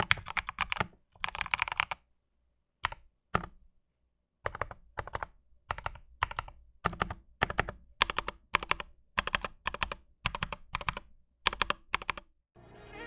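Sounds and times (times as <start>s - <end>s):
mechanical keyboard typing: 0.0s - 2.0s, 2.8s - 3.6s, 4.4s - 12.3s.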